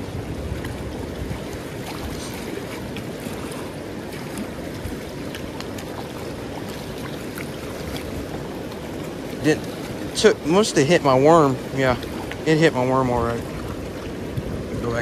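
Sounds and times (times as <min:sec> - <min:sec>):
river water rushing over rocks: 0:00.0 - 0:15.0
small water splashes: 0:00.0 - 0:15.0.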